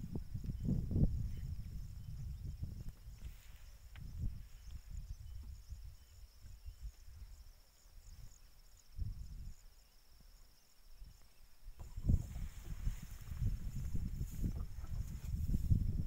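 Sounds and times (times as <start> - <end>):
insects trilling: 0.1 - 16.0
faint chirps: 0.3 - 15.2.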